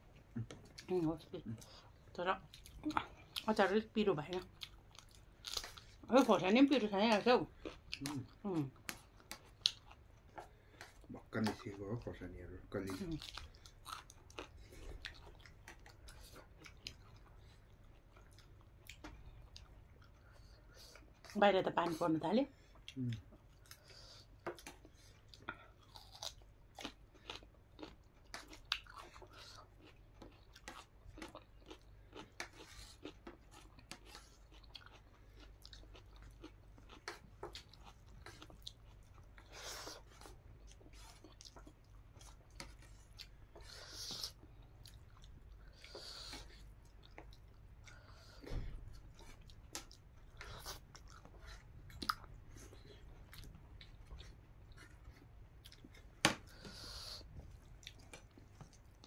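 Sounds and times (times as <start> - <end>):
close-up chewing: 0.0 - 59.0.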